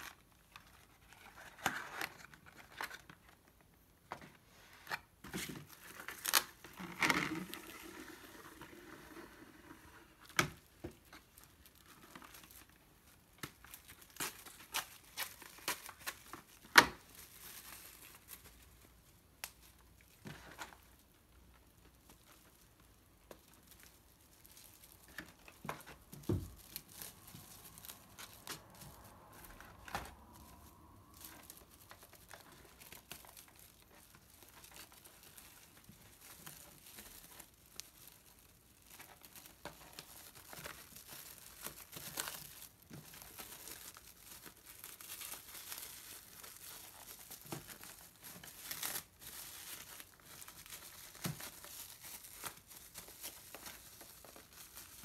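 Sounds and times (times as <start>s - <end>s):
plastic bag crinkling: 0.0s - 3.8s, 5.0s - 55.0s.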